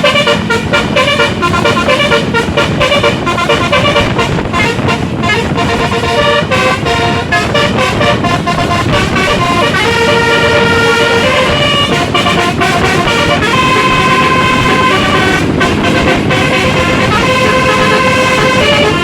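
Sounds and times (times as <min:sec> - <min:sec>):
musical bus air horn melody: 0:00.0 - 0:19.0
steady low rumble: 0:00.0 - 0:19.0.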